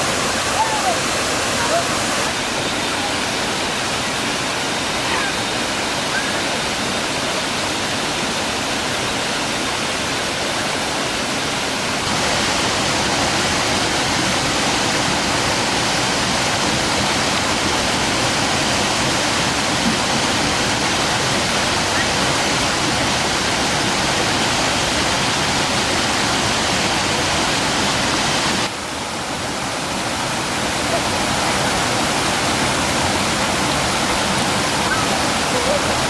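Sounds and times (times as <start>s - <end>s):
stream and waterfall rushing: 0.0s - 36.0s.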